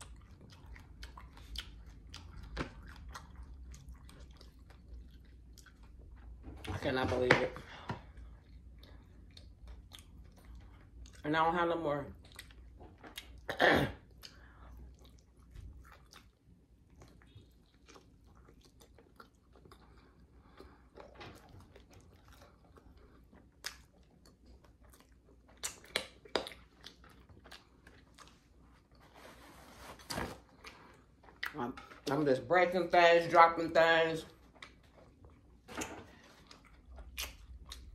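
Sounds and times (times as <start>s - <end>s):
wet chewing with crunches: 0.0s - 6.6s, 7.7s - 11.3s, 12.1s - 29.3s, 34.3s - 37.9s.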